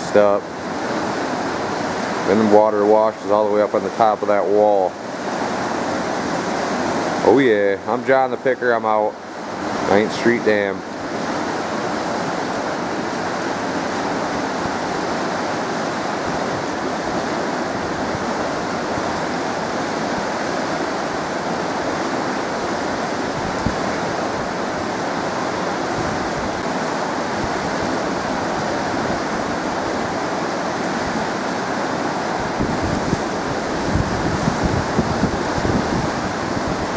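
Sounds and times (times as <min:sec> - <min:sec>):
water roaring through dam gates: 0:00.0 - 0:36.9.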